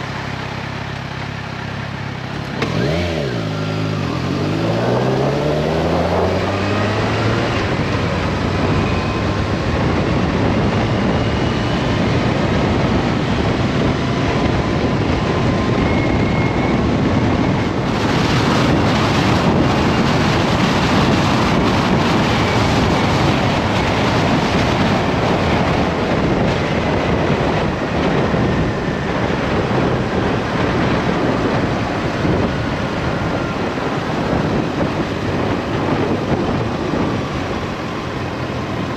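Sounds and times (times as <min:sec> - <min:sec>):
wind rushing over motorcycle: 0:00.0 - 0:38.9.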